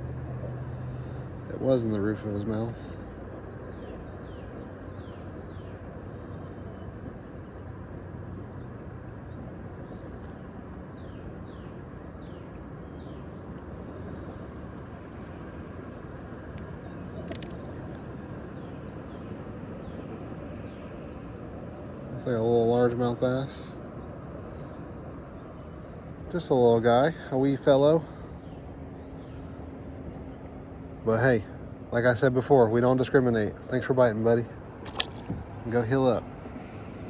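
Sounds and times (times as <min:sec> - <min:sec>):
outdoor background rush: 0:00.0 - 0:37.0.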